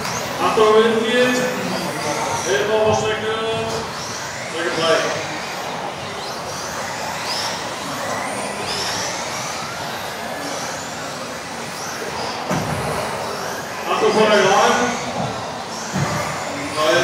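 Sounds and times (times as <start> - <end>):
electric rc car motors whining: 0.0 - 17.0
rush of wheels and motors: 0.0 - 17.0.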